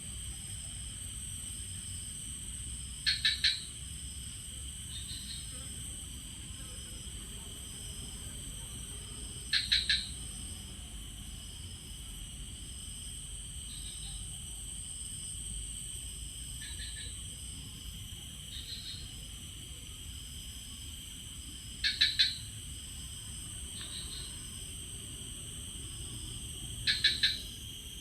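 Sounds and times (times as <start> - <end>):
insects buzzing and trilling: 0.0 - 28.0.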